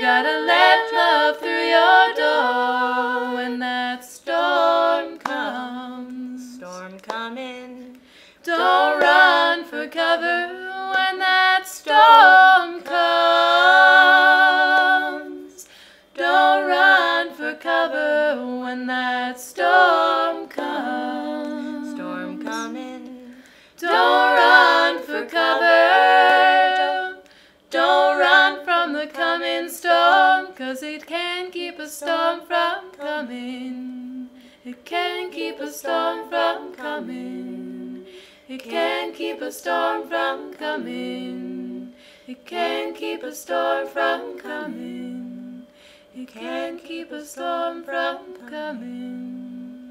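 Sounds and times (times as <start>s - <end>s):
women singing in close harmony: 0.0s - 49.9s.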